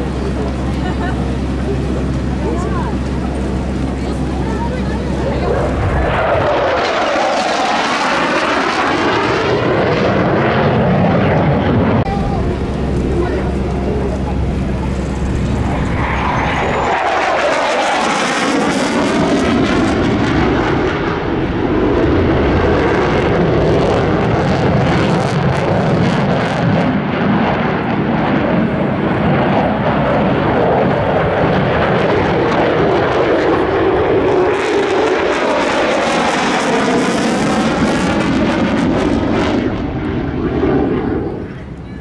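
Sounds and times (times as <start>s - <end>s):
jet engine flying past: 0.0s - 42.0s.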